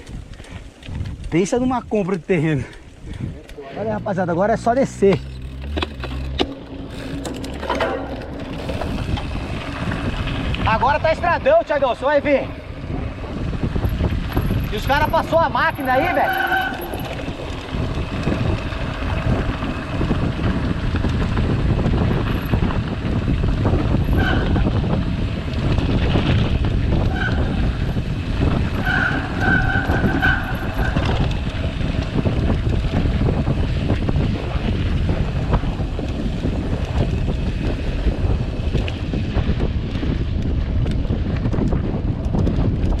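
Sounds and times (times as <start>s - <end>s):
tyres rumbling over gravel: 0.0s - 43.0s
wind buffeting microphone: 0.0s - 43.0s.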